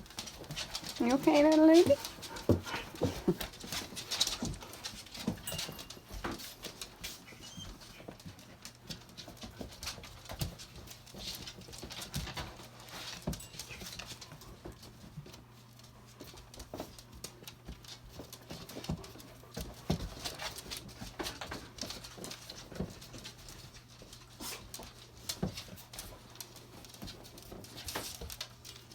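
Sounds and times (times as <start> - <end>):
dog footsteps clicking: 0.0 - 28.9.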